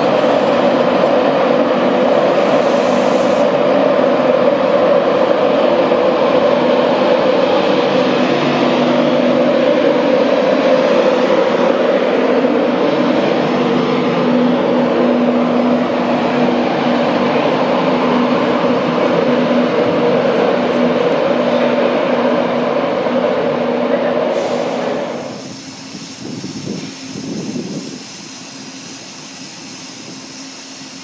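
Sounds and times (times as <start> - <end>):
train cooling fans humming: 0.0 - 31.0.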